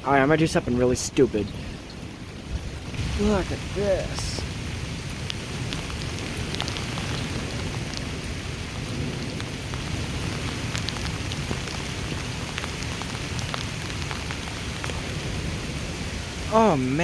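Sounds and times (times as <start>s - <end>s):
heavy rain downpour: 0.0s - 17.0s
low wind rumble: 0.0s - 17.0s
raindrops hitting microphone: 0.0s - 17.0s.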